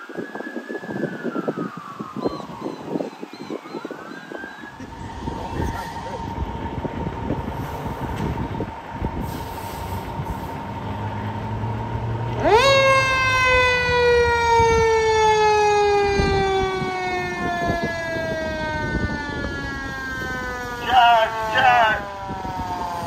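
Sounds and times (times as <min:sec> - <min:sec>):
truck engine rumble: 0:04.4 - 0:23.0.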